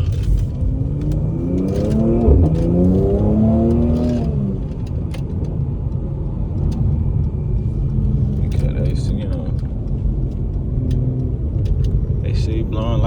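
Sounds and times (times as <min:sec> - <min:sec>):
car engine accelerating: 0:00.0 - 0:13.0
road noise rumble: 0:00.0 - 0:13.0.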